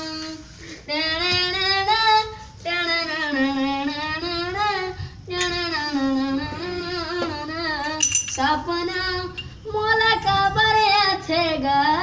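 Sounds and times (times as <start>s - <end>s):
boy singing: 0.0s - 12.0s.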